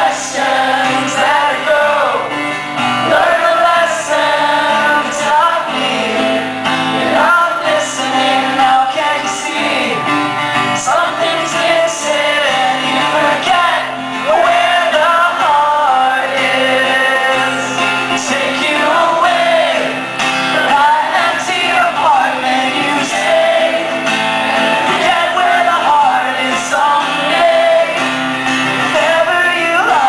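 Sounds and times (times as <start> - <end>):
audience singing along: 0.0 - 30.0
man singing: 0.0 - 30.0
strummed acoustic guitar: 0.0 - 30.0.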